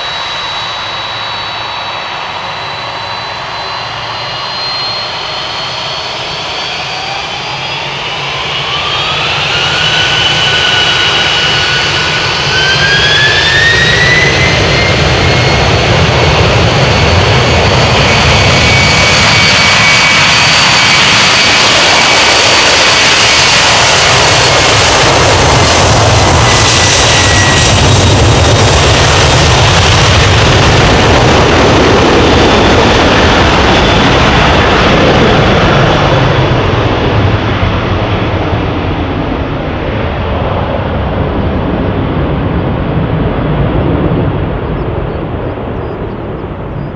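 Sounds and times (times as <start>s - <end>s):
jet engine rush: 0.0s - 46.9s
jet engine whine: 0.0s - 46.9s.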